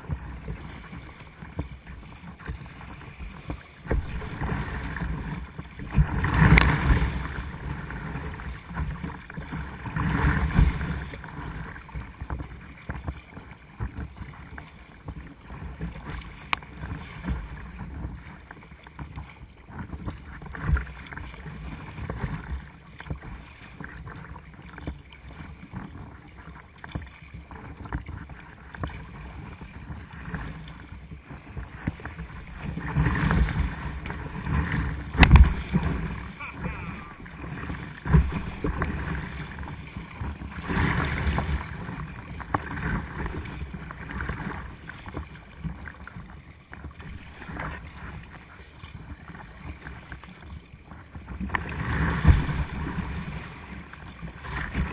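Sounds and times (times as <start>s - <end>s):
sea splashing against kayak: 0.0s - 54.9s.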